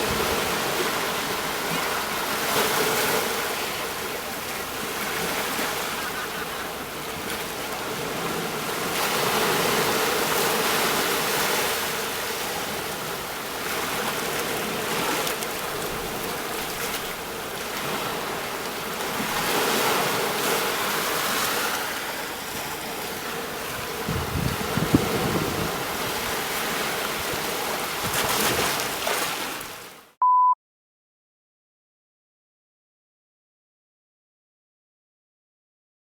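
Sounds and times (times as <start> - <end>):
sea waves breaking on shore: 0.0 - 30.2.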